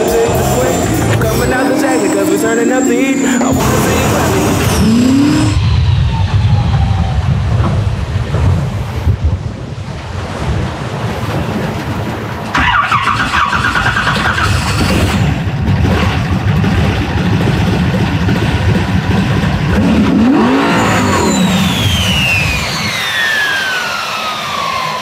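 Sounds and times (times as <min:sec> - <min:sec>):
high whine: 0:00.0 - 0:09.8, 0:12.4 - 0:25.0
boat engine running: 0:00.0 - 0:25.0.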